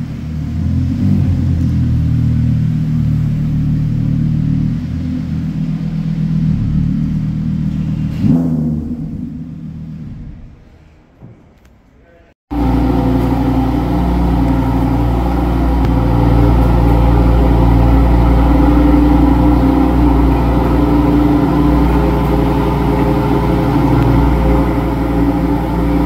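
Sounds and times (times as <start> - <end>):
car engines idling: 0.0 - 11.0, 12.5 - 26.0.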